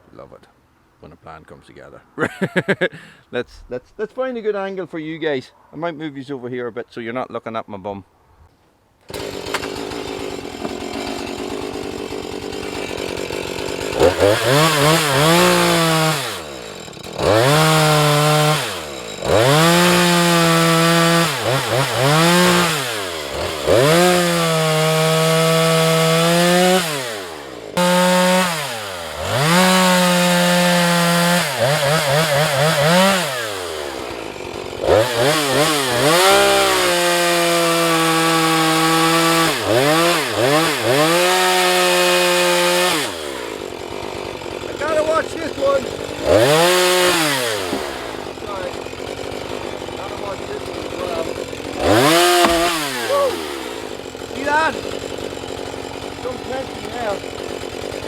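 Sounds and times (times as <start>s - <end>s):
chainsaw idling and revving: 9.0s - 58.0s.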